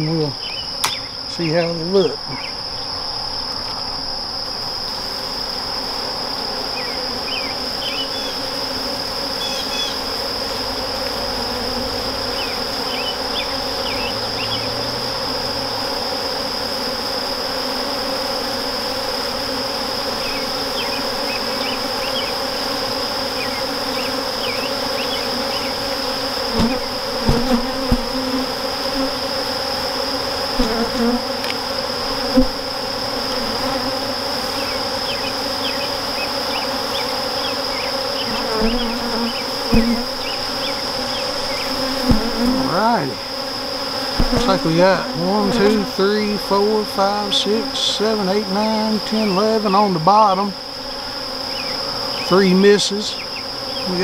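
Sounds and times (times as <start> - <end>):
honeybees buzzing: 0.0 - 54.0.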